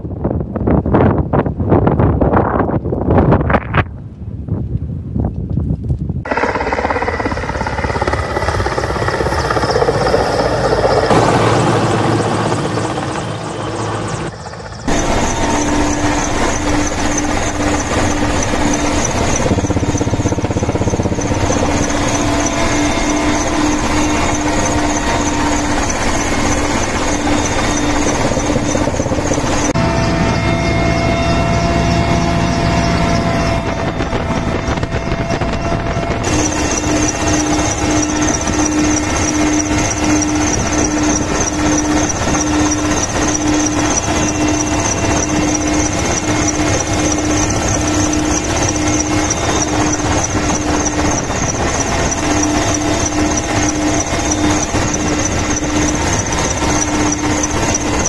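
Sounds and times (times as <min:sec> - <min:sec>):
helicopter low pulsing drone: 0:00.0 - 0:58.0
helicopter turbine whine: 0:06.2 - 0:58.0.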